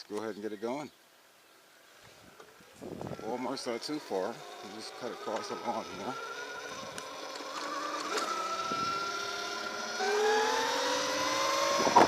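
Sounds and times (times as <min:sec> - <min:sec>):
lower motor whine: 0:02.0 - 0:12.0
electric motorbike motor whining: 0:02.1 - 0:12.0.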